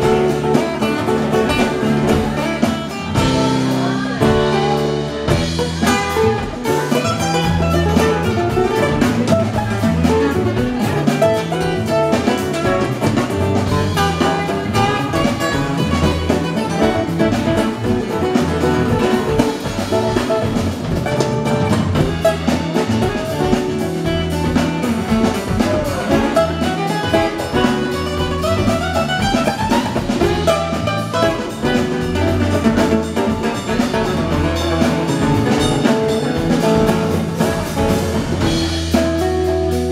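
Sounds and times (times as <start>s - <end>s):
electric bass line: 0.0s - 39.9s
hand drums: 0.0s - 39.9s
strummed acoustic guitars: 0.0s - 39.9s.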